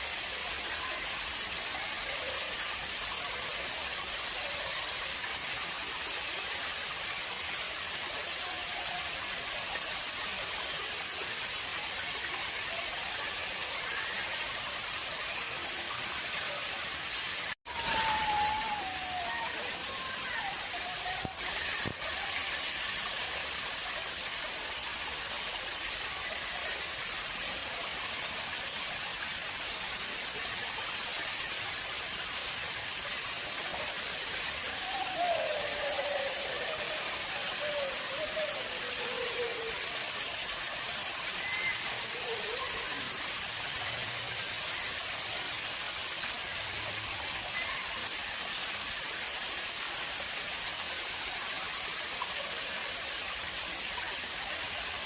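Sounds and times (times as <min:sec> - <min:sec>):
water flowing in a pond: 0:00.0 - 0:55.0.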